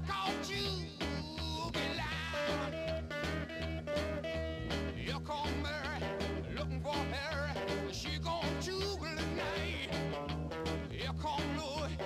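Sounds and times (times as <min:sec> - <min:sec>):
rock song with guitar and bass: 0:00.0 - 0:12.0.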